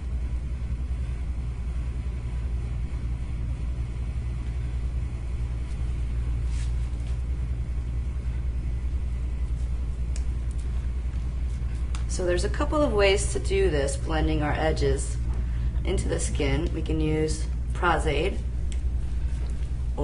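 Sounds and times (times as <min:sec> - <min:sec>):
low room rumble: 0:00.0 - 0:20.0.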